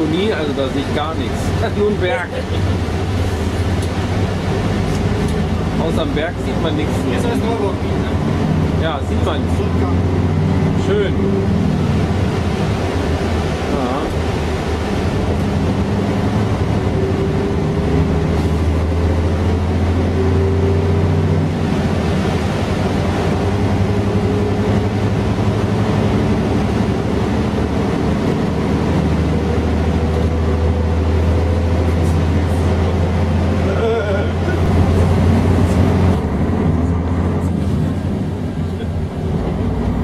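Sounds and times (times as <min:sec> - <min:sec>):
bus diesel engine running: 0:00.0 - 0:40.0
road noise: 0:00.0 - 0:40.0.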